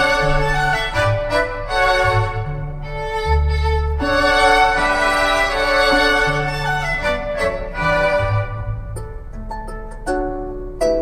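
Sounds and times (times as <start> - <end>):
string music over car speakers: 0.0 - 11.0.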